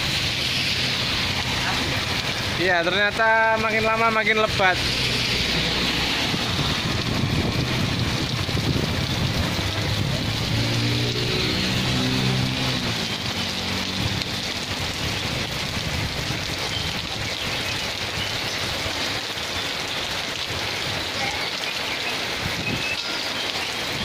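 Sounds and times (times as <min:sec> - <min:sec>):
heavy rain on asphalt road: 0:00.0 - 0:24.0.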